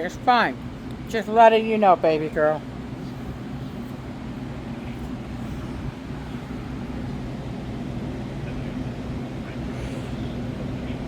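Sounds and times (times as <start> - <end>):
faint whir: 0.0 - 11.0
low machine hum: 0.0 - 11.0.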